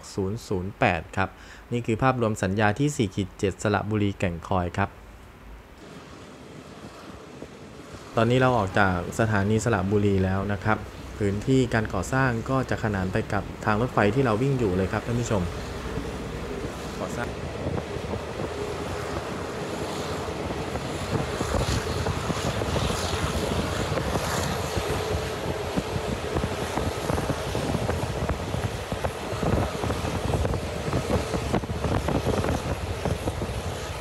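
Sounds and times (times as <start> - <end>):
train rumbling and rattling: 5.8 - 34.0
wind buffeting microphone: 5.8 - 34.0.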